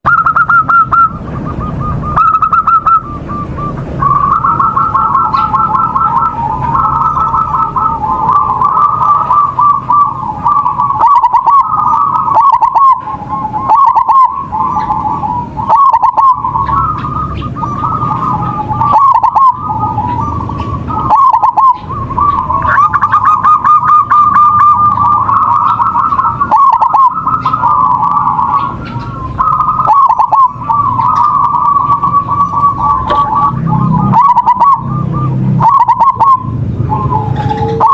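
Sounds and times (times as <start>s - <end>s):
dove trilled cooing: 0.0s - 37.9s.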